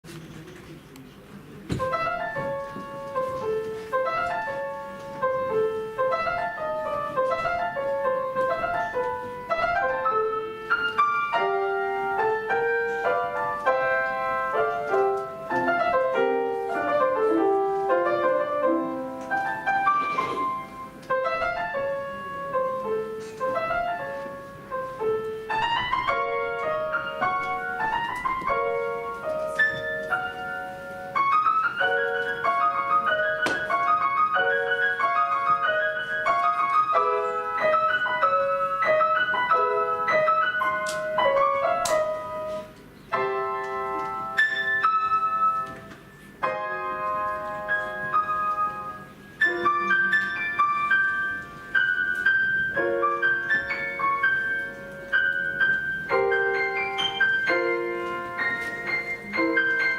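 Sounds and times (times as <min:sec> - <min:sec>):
solo piano piece: 0:00.4 - 0:59.9.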